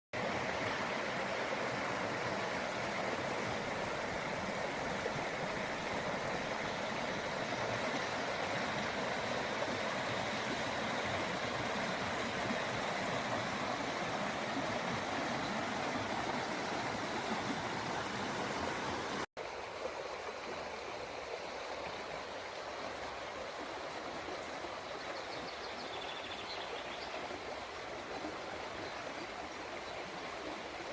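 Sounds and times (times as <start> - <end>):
river water rushing: 0.2 - 30.9.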